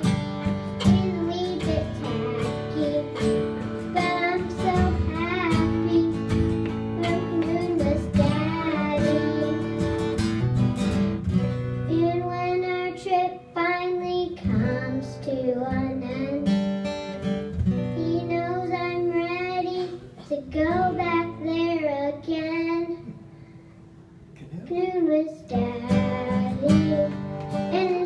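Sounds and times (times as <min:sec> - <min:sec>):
girl singing folk song: 0:00.0 - 0:10.7, 0:11.8 - 0:23.6, 0:24.4 - 0:28.0
strummed acoustic guitar: 0:00.0 - 0:24.8, 0:25.4 - 0:28.0.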